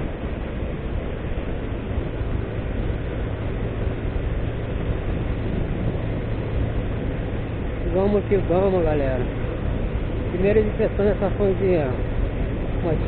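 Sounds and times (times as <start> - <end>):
wind noise rushing: 0.0 - 13.0.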